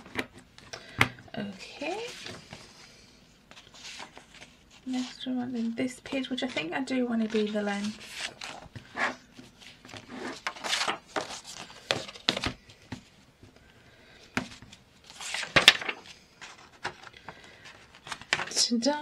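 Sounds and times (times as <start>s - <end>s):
paper pages rustling: 1.8s - 18.6s.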